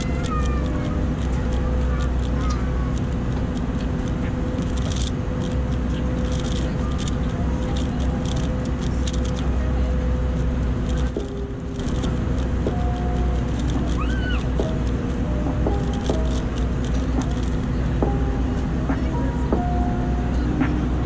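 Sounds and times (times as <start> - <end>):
aircraft cabin drone: 0.0 - 21.0.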